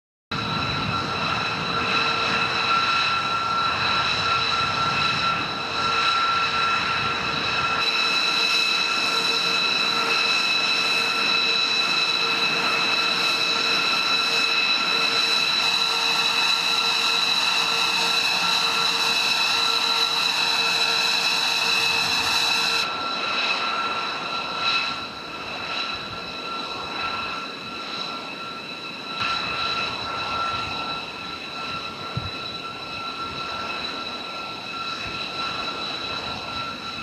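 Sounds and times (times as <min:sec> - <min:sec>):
jet engines whining: 0:00.3 - 0:37.0.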